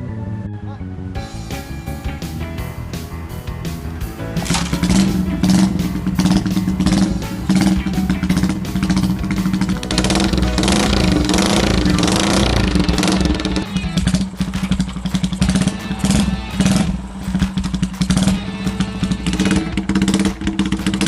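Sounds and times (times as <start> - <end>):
music: 0.0 - 21.0
motorcycle engine running: 2.6 - 21.0.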